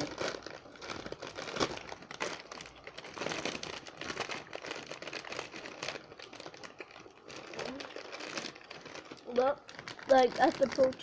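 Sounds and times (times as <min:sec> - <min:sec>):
plastic snack bag crinkling: 0:00.0 - 0:11.0.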